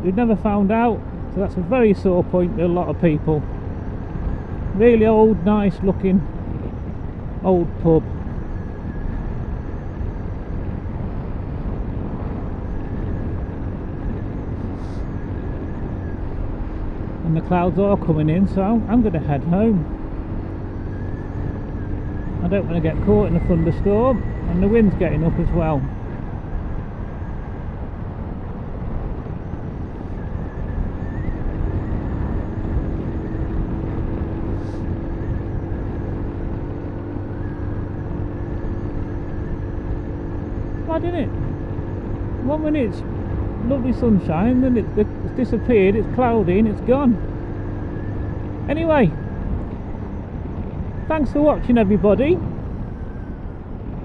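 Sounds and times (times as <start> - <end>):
motorcycle engine running: 0.0 - 54.0
road and wind noise: 0.0 - 54.0.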